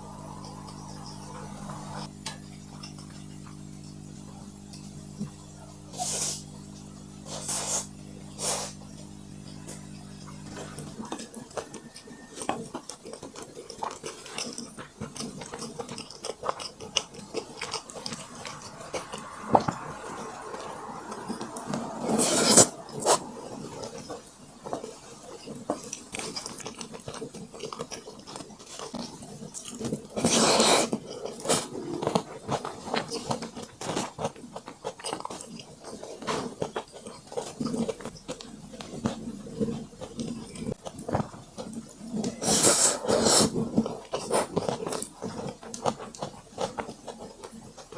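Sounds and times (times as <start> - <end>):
low steady hum: 0.0 - 47.9
person chewing food: 7.2 - 47.9.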